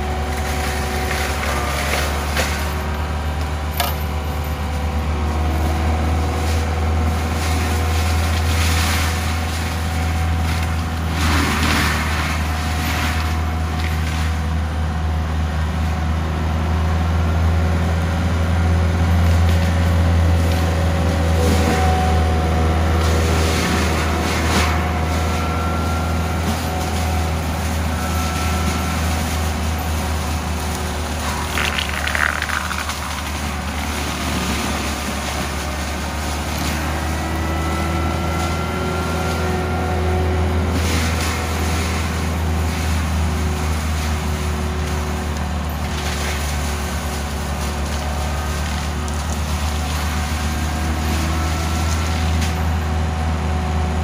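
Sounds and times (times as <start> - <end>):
diesel engine running under load: 0.0 - 54.0
mulcher shredding brush: 0.0 - 54.0.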